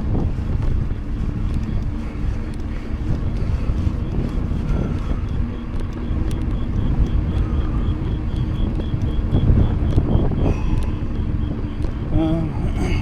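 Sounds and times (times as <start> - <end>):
rapid high ticking: 0.0 - 13.0
wind rushing over microphone: 0.0 - 13.0.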